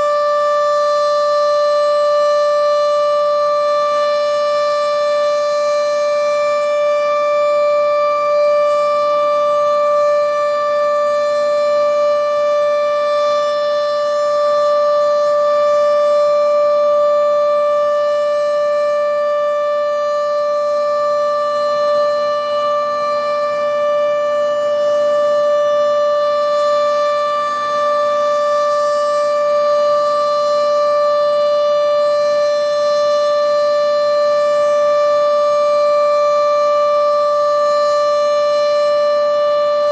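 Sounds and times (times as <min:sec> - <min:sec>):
storm warning siren steady tone: 0:00.0 - 0:39.9.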